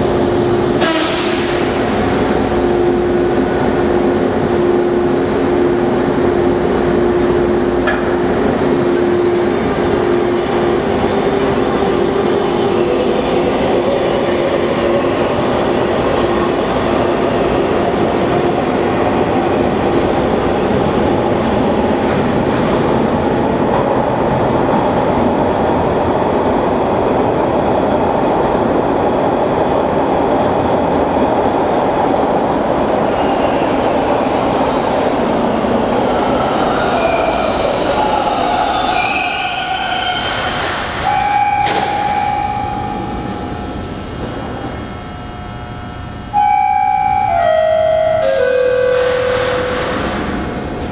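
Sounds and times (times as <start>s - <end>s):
subway train rail noise: 0.0s - 50.9s.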